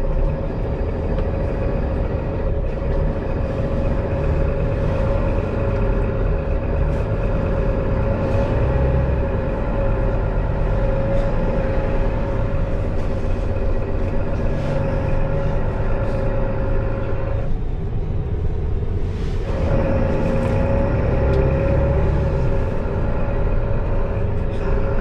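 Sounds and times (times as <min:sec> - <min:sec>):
bus drivetrain hum: 0:00.0 - 0:25.0
drivetrain whine: 0:00.0 - 0:25.0.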